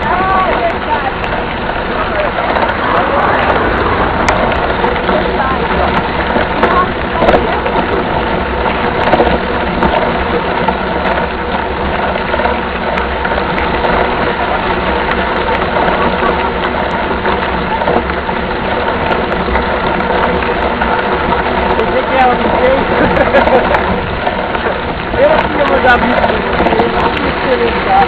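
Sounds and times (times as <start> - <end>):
bike rattling on trail: 0.0 - 28.0.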